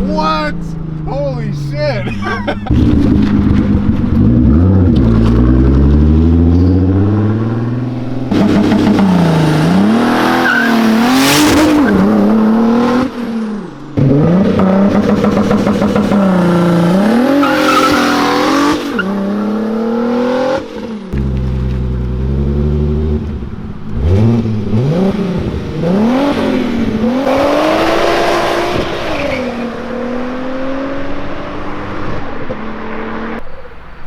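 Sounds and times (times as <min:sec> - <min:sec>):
turbocharged car engine accelerating: 0:00.0 - 0:33.8.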